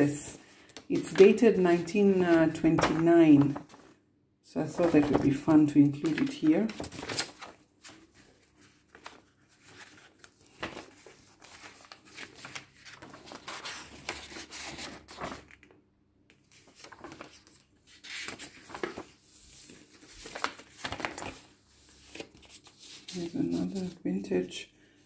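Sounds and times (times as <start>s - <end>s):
paper rustling and crinkling: 0.0s - 4.0s, 4.7s - 24.1s
page flips: 0.6s - 3.9s, 4.7s - 24.0s.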